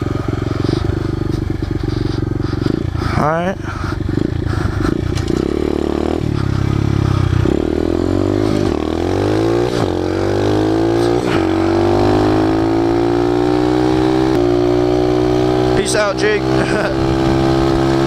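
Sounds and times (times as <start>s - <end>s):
motorbike engine accelerating: 0.0s - 18.0s.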